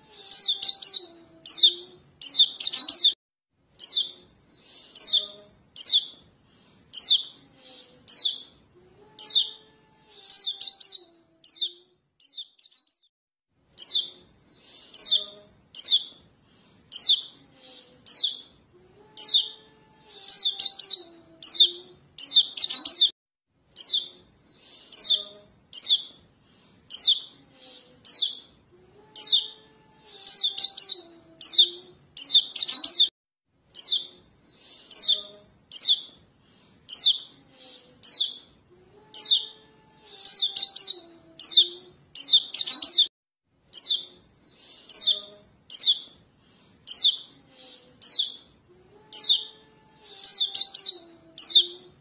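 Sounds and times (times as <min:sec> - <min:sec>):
fledgling birds chirping: 0:00.0 - 0:03.2, 0:03.8 - 0:08.6, 0:09.2 - 0:13.1, 0:13.8 - 0:18.6, 0:19.2 - 0:23.1, 0:23.8 - 0:33.1, 0:33.8 - 0:38.5, 0:39.2 - 0:43.1, 0:43.7 - 0:48.5, 0:49.1 - 0:52.0.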